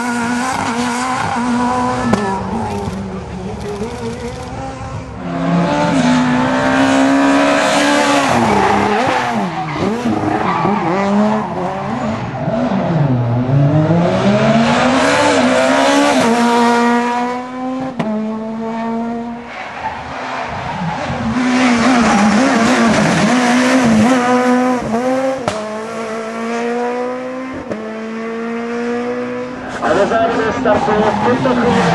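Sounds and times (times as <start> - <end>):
rally car engines revving: 0.0 - 31.9.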